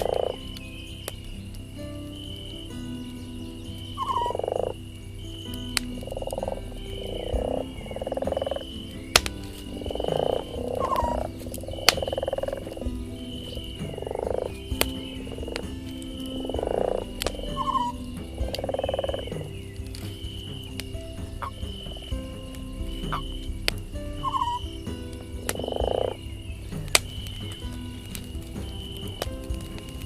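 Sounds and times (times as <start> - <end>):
campfire popping: 0.0 - 30.0
frogs croaking: 0.0 - 30.0
high insect-like drone: 0.0 - 30.0.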